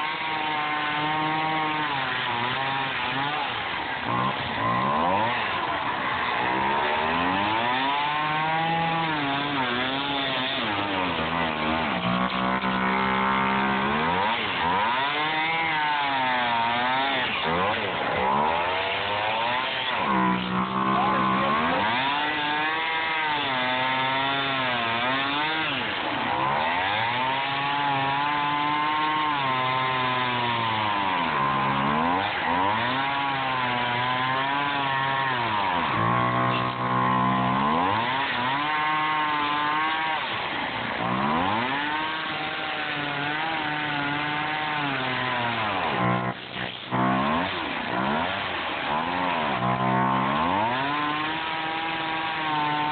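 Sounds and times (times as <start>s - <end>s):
chainsaw cutting foam: 0.0s - 52.9s.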